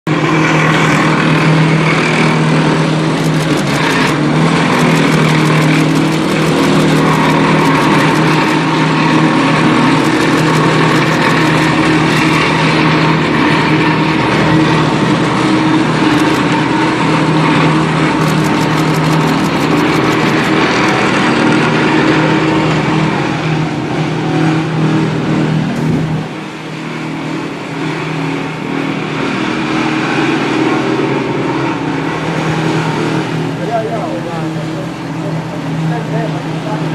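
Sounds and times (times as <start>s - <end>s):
engine running: 0.1s - 36.9s.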